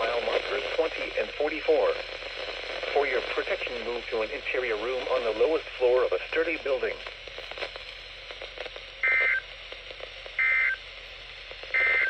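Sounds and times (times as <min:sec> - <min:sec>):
radio hiss and crackle: 0:00.0 - 0:12.0.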